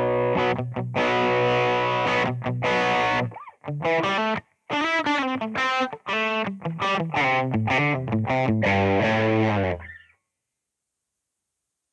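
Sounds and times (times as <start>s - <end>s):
electric guitar single notes: 0.0s - 10.0s.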